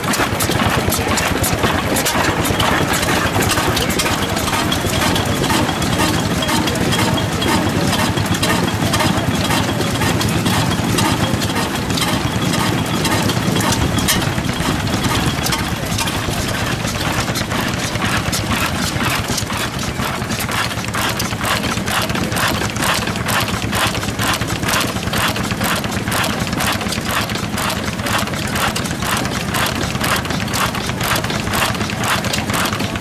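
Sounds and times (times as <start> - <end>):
stationary engine clacking steadily: 0.0 - 33.0.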